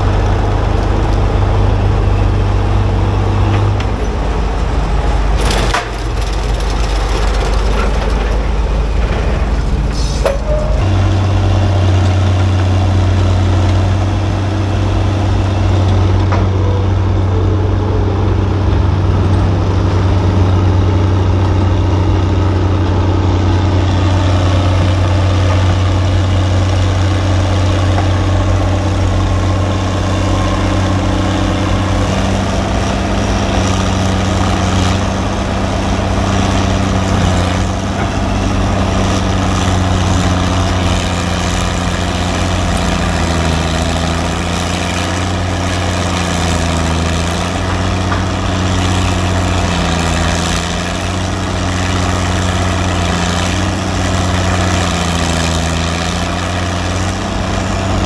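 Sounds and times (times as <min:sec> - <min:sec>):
large engine idling: 0:00.0 - 0:58.0.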